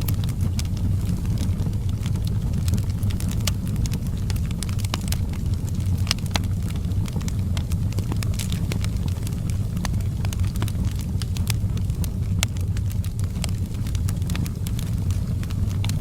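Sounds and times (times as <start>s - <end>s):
fire crackling and popping: 0.0s - 16.0s
low rumble: 0.0s - 16.0s.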